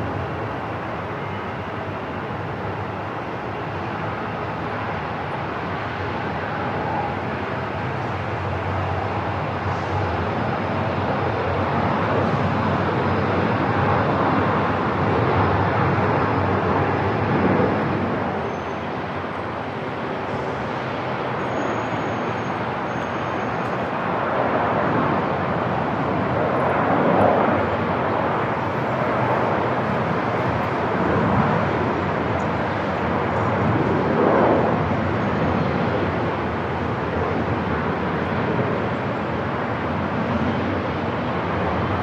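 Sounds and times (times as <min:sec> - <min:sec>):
airport rumbling noise: 0:00.0 - 0:42.0.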